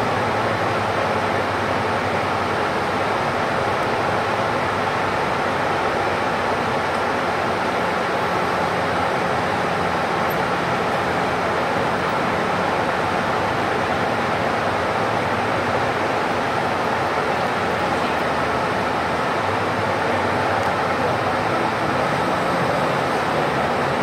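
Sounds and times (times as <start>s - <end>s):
bus engine drone: 0.0s - 24.0s
road noise: 0.0s - 24.0s.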